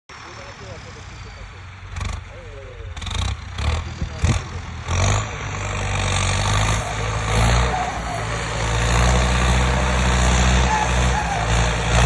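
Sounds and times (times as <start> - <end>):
tractor diesel engine under load: 0.1 - 12.0.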